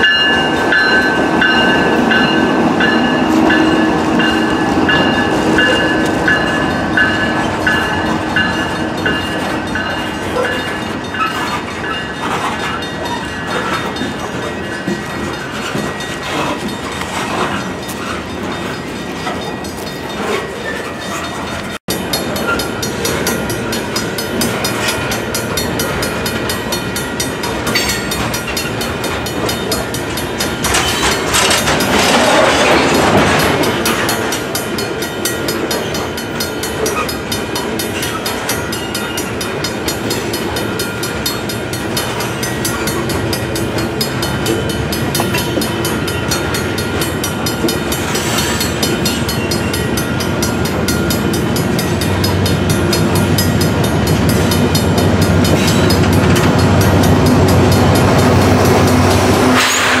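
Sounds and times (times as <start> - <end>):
freight train wheel rumble: 0.0 - 60.0
wheels clicking over rail joints: 0.0 - 60.0.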